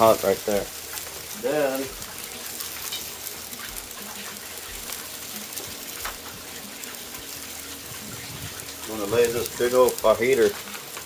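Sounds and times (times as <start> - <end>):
steak sizzling on a grill: 0.0 - 11.0.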